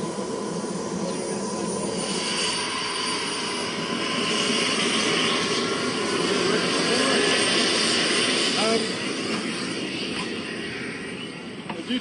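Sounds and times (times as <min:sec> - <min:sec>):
model helicopter turbine whine: 0:00.0 - 0:12.0.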